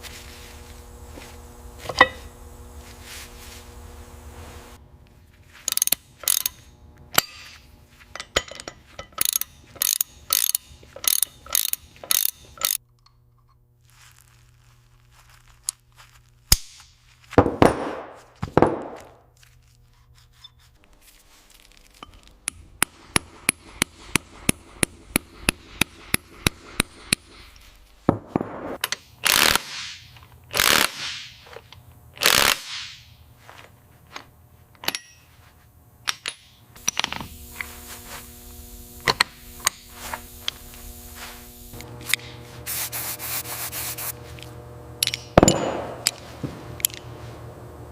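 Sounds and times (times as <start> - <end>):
noisy tool strokes: 0.0 - 12.8, 19.4 - 28.1, 28.8 - 33.7, 34.9 - 47.9.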